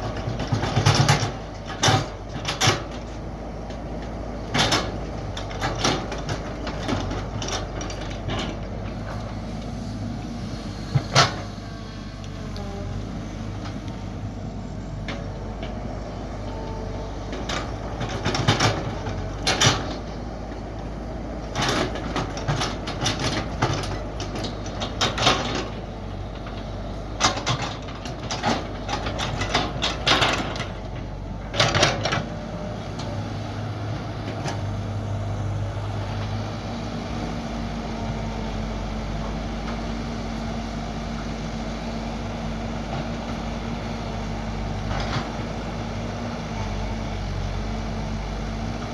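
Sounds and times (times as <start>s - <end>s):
excavator engine running: 0.0s - 48.9s.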